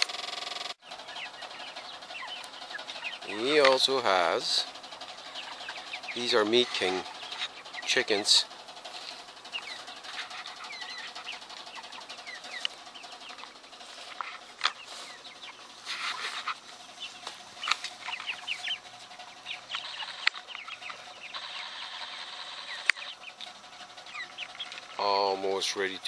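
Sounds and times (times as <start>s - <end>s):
chickens clucking and peeping: 0.8s - 26.0s.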